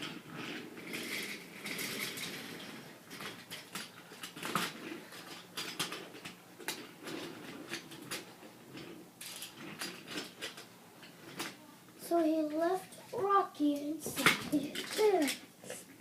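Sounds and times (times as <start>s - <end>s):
wooden toy trains clicking: 0.0s - 15.8s
faint scraping patter: 0.0s - 15.9s.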